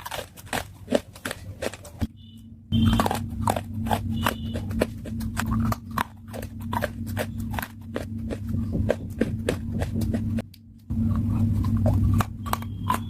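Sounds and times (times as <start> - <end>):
crunchy chewing: 0.0 - 2.1, 2.7 - 13.0
steady low hum: 0.0 - 13.0.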